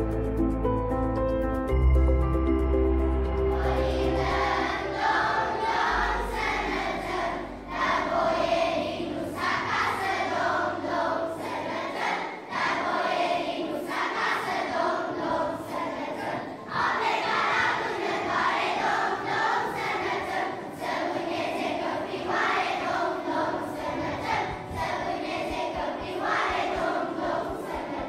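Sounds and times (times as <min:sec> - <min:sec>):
children's choir singing: 0:03.2 - 0:28.0.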